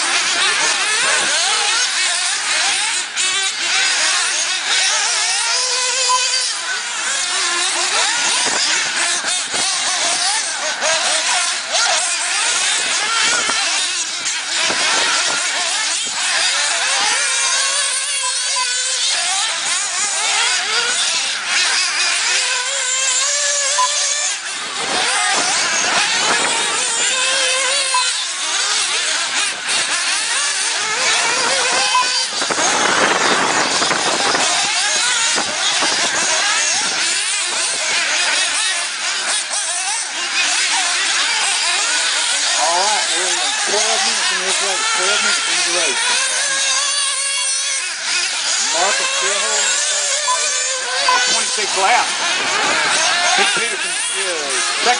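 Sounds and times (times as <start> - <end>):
small engines buzzing and revving: 0.0 - 54.9.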